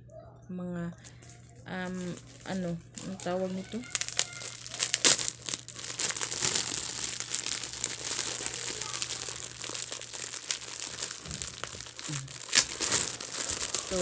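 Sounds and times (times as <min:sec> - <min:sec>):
plastic bag crinkling: 0:01.0 - 0:14.0.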